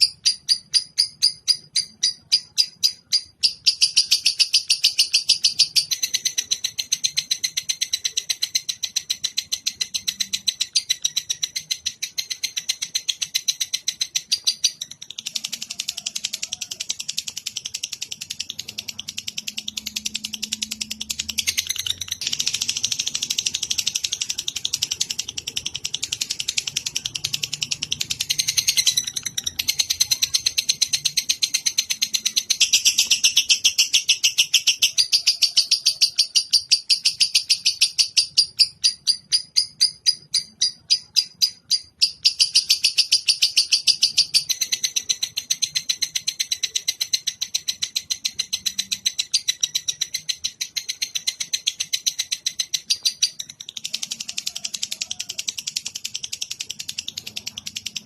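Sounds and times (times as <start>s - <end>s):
songbird fast high chirps: 0.0s - 58.0s.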